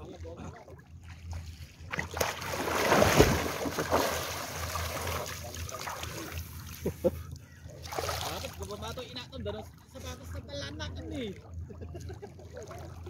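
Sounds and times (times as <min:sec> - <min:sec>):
water splashing as people wade: 0:00.2 - 0:10.1, 0:11.2 - 0:13.0.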